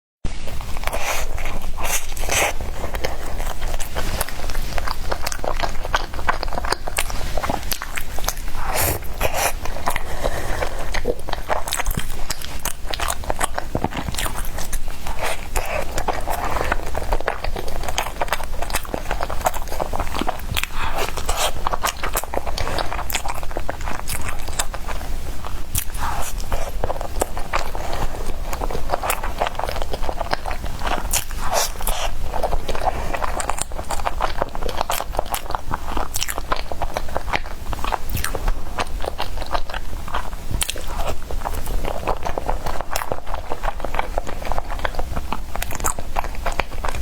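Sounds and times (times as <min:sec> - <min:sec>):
person chewing bread: 0:00.4 - 0:47.0.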